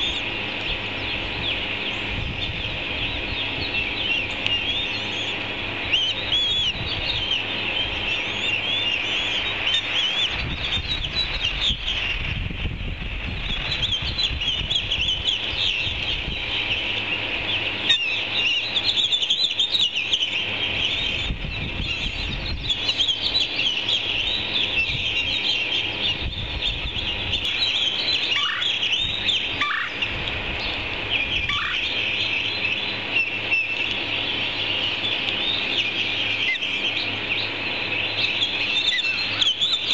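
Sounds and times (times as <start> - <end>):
birds chirping in chorus: 0.0 - 39.9
downward sweeping bird calls: 0.0 - 39.9.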